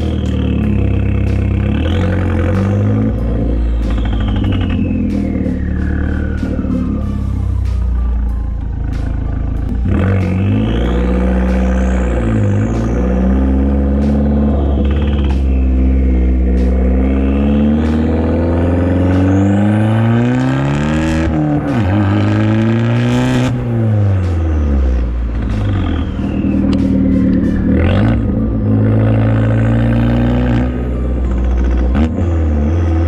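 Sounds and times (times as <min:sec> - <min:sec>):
loud car engine revving: 0:00.0 - 0:33.0.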